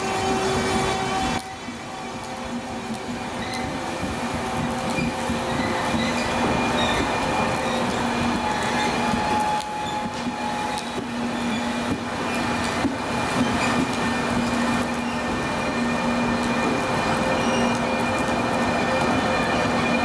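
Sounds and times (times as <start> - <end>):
train rolling on rails: 0.0 - 20.0.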